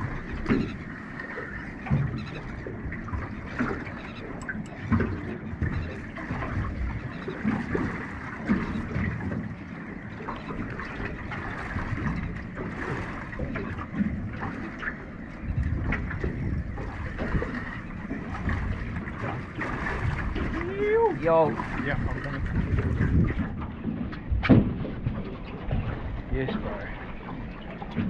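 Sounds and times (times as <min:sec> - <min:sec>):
small splashes and knocks: 0:00.0 - 0:28.0
water sloshing against boat: 0:00.0 - 0:28.0.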